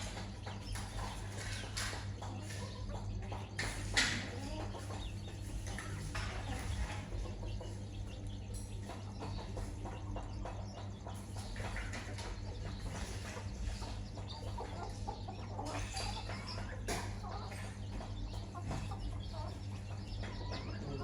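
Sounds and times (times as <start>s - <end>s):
chickens clucking: 0.0s - 21.0s
steady low hum: 0.0s - 21.0s.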